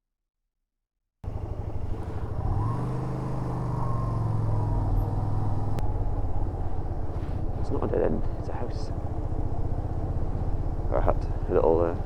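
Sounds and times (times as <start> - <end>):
motorcycle engine running: 1.2 - 12.0.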